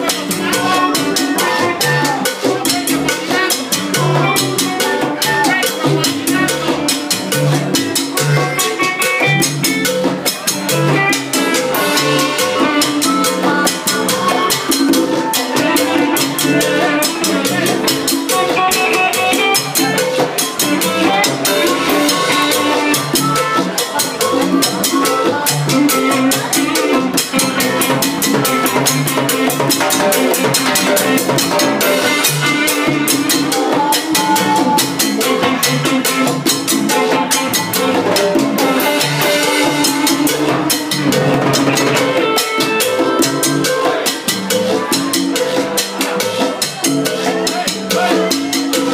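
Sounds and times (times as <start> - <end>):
live salsa band: 0.0 - 48.9.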